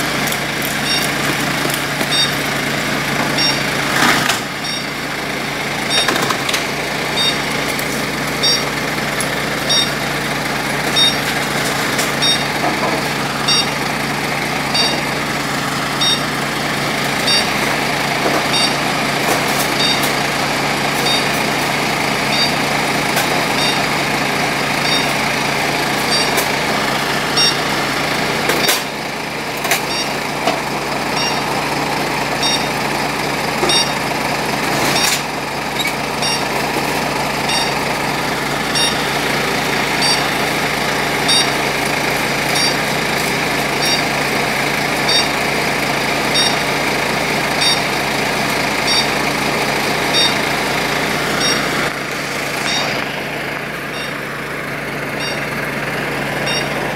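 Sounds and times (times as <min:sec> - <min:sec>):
fire engines idling: 0:00.0 - 0:56.9.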